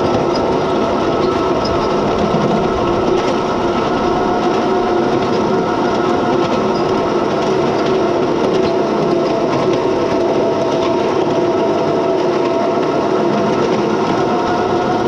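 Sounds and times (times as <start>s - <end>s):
miniature locomotive drive whine: 0.0s - 15.0s
running gear rattling on rails: 0.0s - 15.0s.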